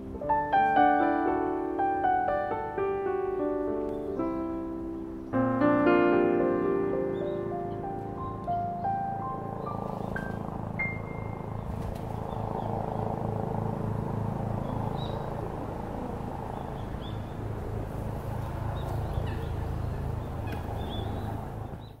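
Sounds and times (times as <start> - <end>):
low outdoor rumble: 4.4 - 22.0.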